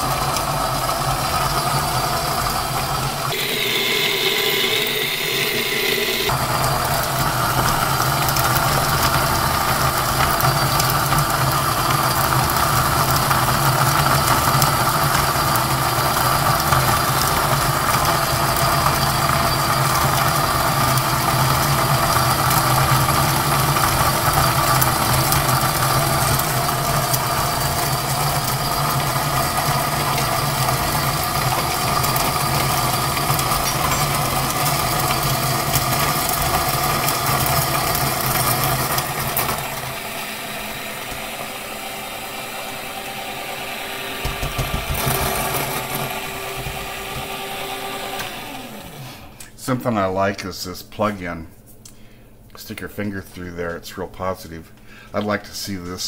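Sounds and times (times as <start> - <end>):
coffee grinder motor grinding: 0.0 - 49.4.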